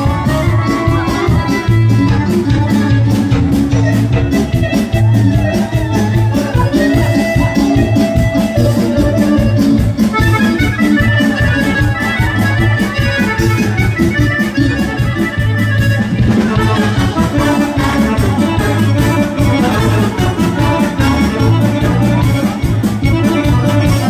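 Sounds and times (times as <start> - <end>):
lively folk dance music: 0.0 - 24.0.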